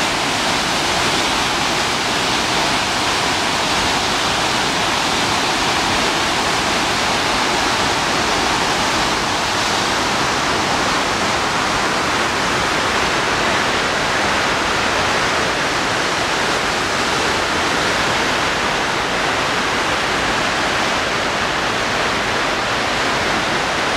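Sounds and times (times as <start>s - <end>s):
roar of rushing water: 0.0s - 23.9s.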